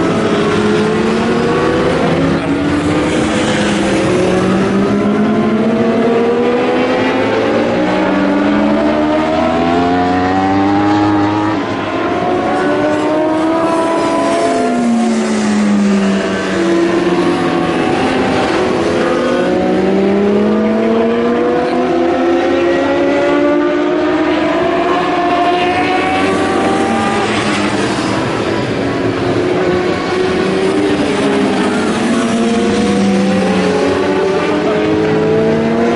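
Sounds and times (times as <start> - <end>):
racing motorcycle engines: 0.0 - 35.9.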